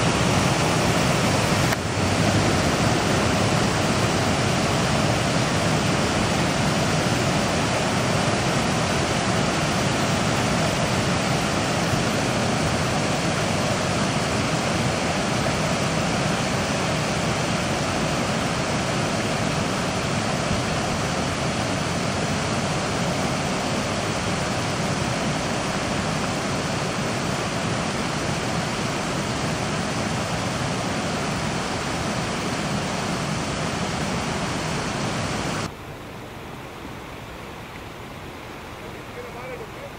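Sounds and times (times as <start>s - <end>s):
flood water rushing: 0.0s - 39.9s.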